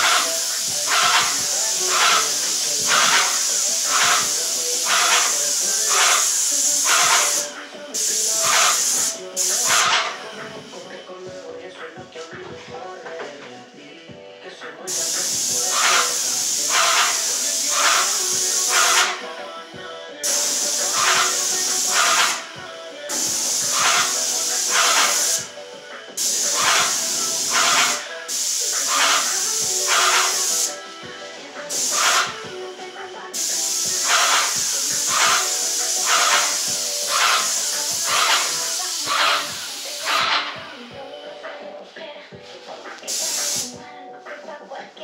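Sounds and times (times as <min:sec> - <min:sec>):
spray gun hissing: 0:00.0 - 0:10.9, 0:14.9 - 0:40.8, 0:42.8 - 0:43.8.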